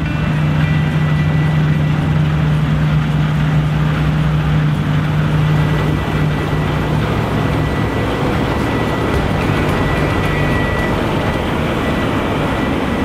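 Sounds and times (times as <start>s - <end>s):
combine harvester droning: 0.0s - 13.0s.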